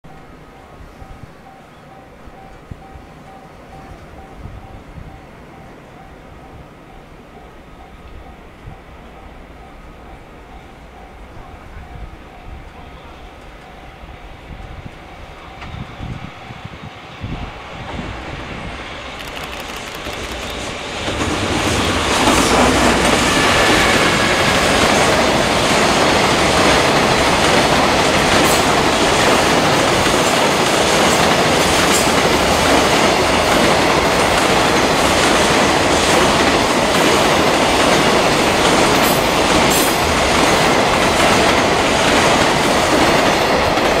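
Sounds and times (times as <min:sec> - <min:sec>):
freight train wheels rolling on rails: 0:00.1 - 0:44.0.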